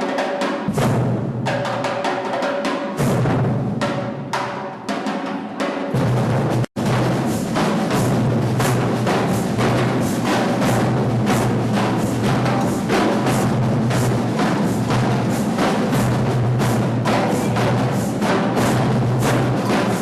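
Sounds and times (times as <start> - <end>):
drums driving rhythm: 0.0 - 20.0.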